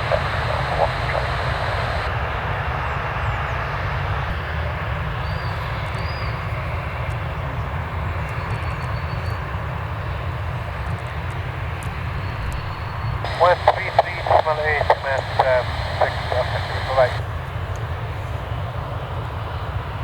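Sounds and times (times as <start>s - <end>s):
jet airliner engine noise: 0.0s - 8.7s, 9.6s - 17.2s.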